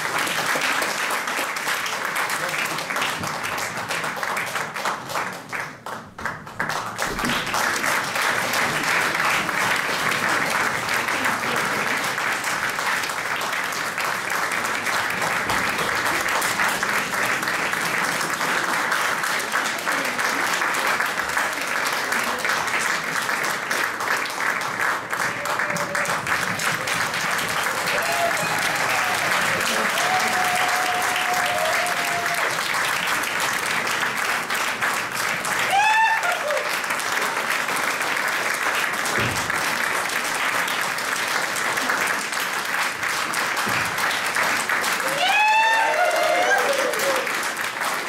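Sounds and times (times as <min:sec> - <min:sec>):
audience applauding: 0:00.0 - 0:48.0.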